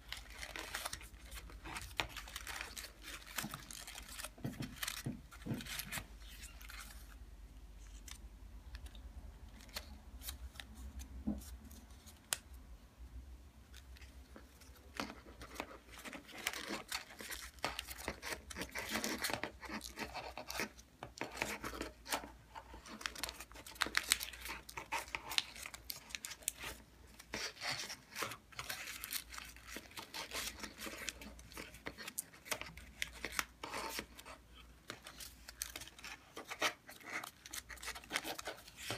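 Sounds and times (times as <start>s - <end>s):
paper rustling and crinkling: 0.0s - 7.2s, 13.7s - 38.9s.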